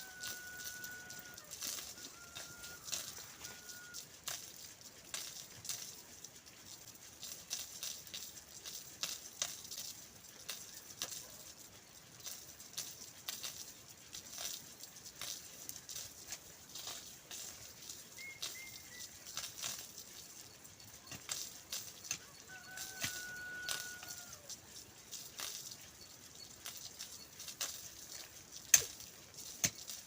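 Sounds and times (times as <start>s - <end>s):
faint hiss: 0.0s - 30.0s.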